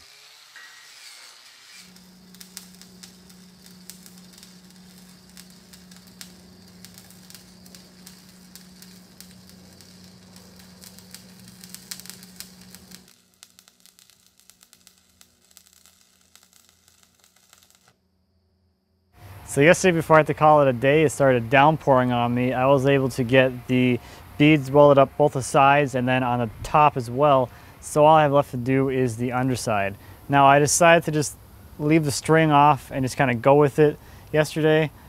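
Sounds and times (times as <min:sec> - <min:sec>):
welding arc crackling: 0:00.0 - 0:18.0, 0:19.2 - 0:34.9.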